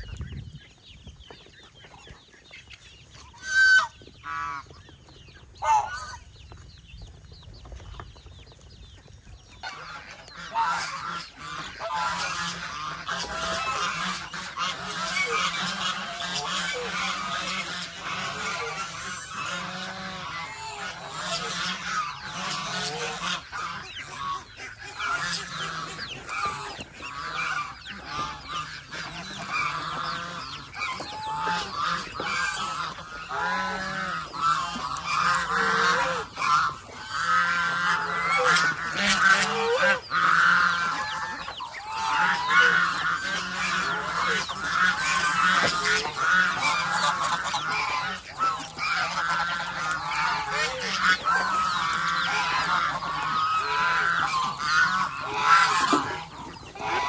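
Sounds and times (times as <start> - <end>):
geese honking: 2.6 - 4.8, 5.6 - 6.3, 9.6 - 57.0.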